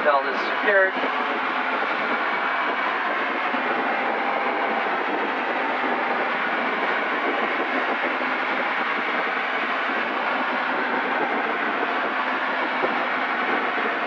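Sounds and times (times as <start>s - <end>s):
airplane cabin engine rush: 0.0s - 14.0s.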